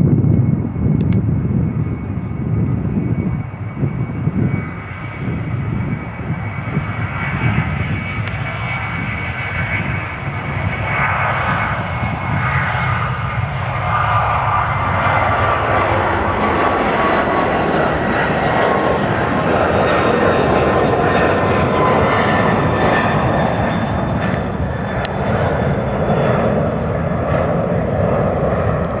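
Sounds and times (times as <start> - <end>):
jet engine roar: 0.0 - 29.0.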